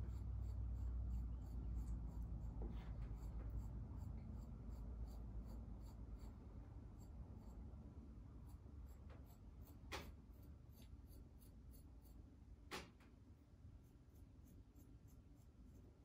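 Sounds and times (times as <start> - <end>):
utensil scratching soft clay: 0.0 - 12.4, 13.8 - 16.0.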